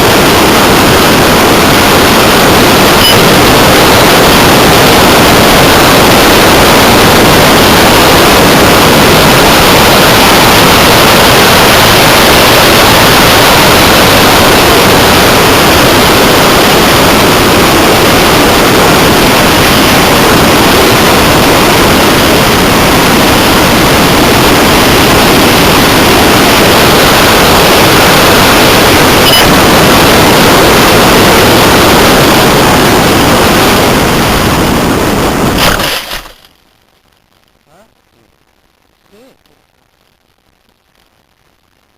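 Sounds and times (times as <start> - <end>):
rushing airflow and propeller noise: 0.0 - 36.5.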